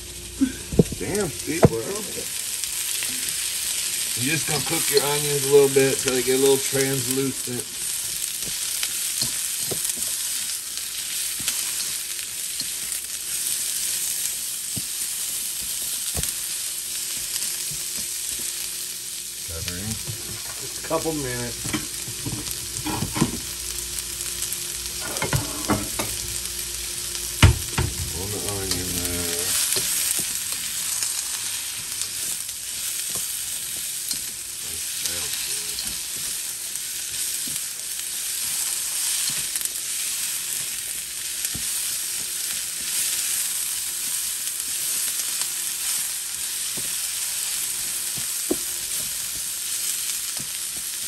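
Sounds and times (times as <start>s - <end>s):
onions sizzling in oil: 0.0s - 51.0s.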